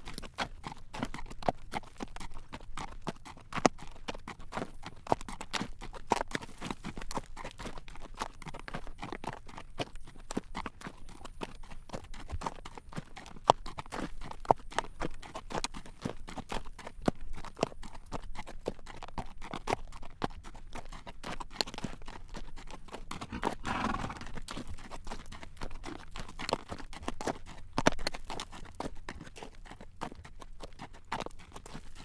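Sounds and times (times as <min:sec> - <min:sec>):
horse hooves clip-clopping on road: 0:00.0 - 0:32.0.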